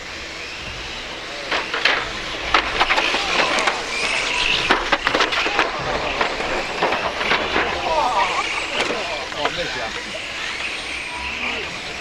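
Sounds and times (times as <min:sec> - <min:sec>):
rc car motor whine: 0:00.0 - 0:12.0
sharp clacks: 0:01.4 - 0:11.1.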